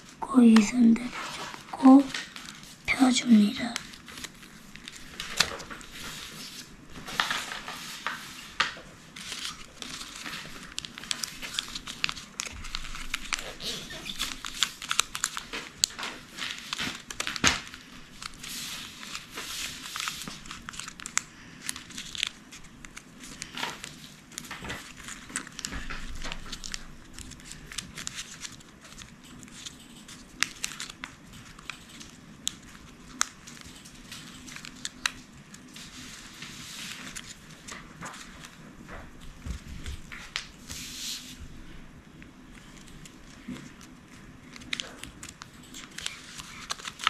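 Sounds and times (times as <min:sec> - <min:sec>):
paper crinkling and rustling: 0:00.0 - 0:47.0.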